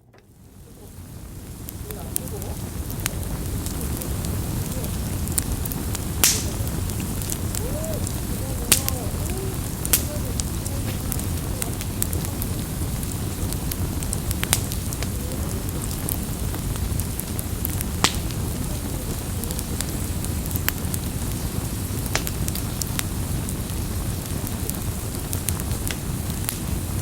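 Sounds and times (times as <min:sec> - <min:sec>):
campfire flames rumbling: 0:00.0 - 0:27.0
fire crackles and pops: 0:00.0 - 0:27.0.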